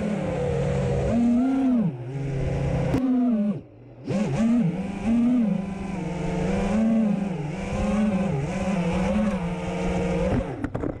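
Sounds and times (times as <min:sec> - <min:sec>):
drone motors buzzing whine: 0:00.0 - 0:11.0.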